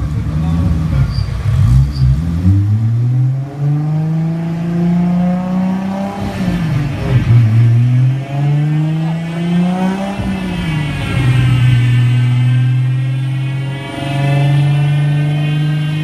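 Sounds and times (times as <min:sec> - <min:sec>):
turbocharged car engine accelerating: 0:00.0 - 0:16.0.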